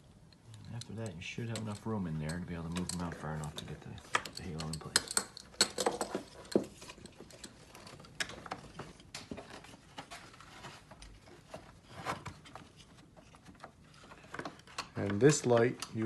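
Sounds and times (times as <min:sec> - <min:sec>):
light clicks and knocks of parts: 0:00.0 - 0:16.0.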